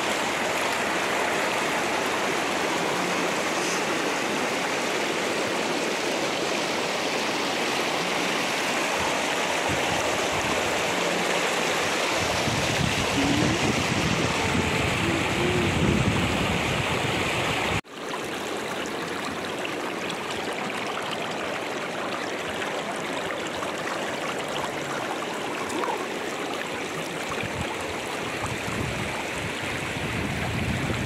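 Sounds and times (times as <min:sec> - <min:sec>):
shallow water over stones: 0:00.0 - 0:15.7, 0:17.8 - 0:30.0
river rushing over rocks: 0:00.0 - 0:31.0.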